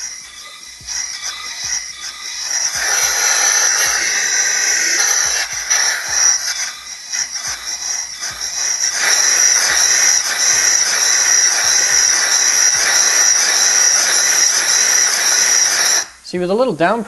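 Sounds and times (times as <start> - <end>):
compressed air hissing: 0.0 - 16.3.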